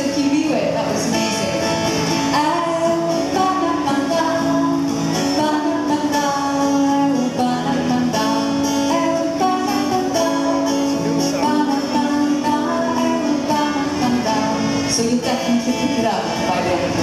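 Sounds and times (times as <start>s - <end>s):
woman singing: 0.0s - 16.7s
strummed acoustic guitar: 0.0s - 17.0s.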